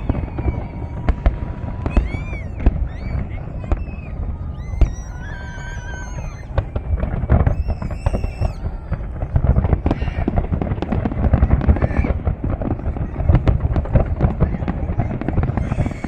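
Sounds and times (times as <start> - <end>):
fireworks bangs and crackles: 0.0 - 16.0
high whistling fireworks: 0.0 - 16.0.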